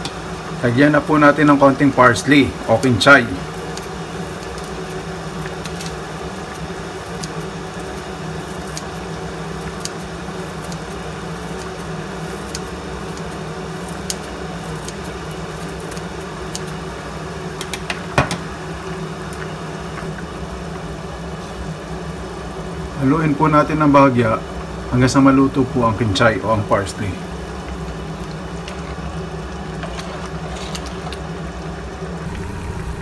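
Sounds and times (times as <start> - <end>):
soup boiling in a pot: 0.0 - 33.0
steady mechanical hum: 0.0 - 33.0.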